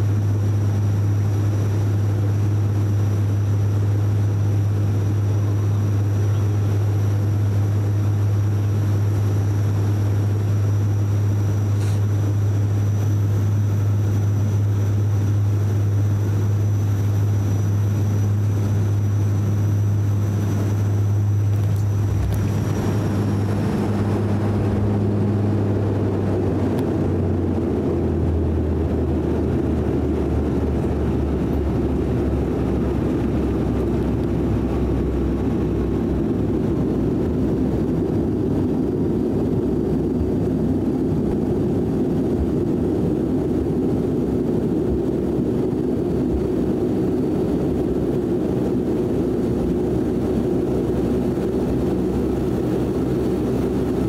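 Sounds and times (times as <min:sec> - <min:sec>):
deep propeller drone: 0:00.0 - 0:54.0
rushing rumble of runway roll: 0:00.0 - 0:54.0.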